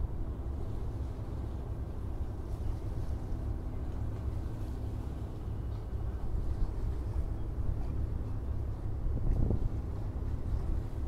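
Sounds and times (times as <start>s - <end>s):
distant tugboat engine humming: 0.0s - 11.0s
wind rumble on microphone: 0.0s - 11.0s.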